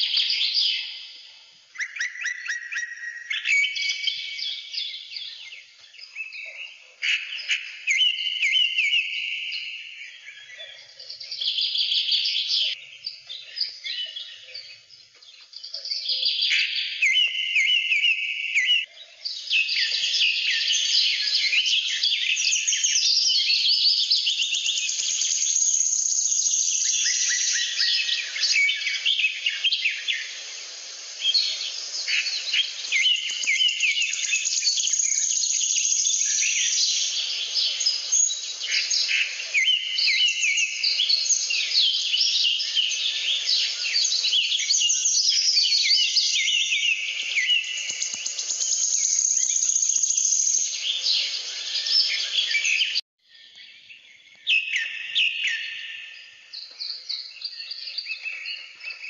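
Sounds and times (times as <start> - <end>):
many small birds chirping: 0.0 - 59.0.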